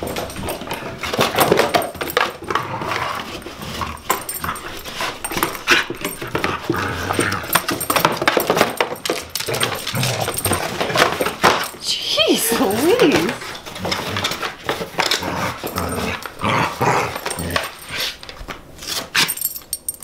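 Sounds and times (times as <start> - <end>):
dog noises: 0.0 - 19.6.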